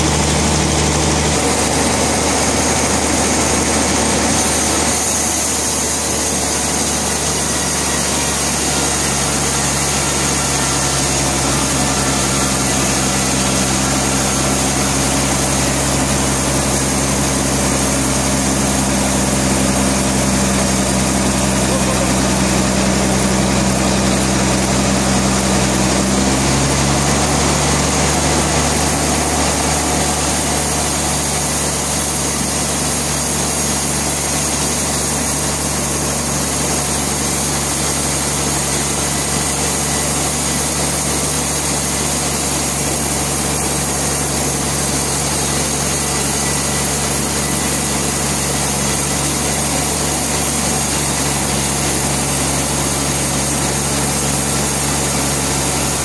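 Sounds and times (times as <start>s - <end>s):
sawmill machinery engine hum: 0.0s - 56.0s.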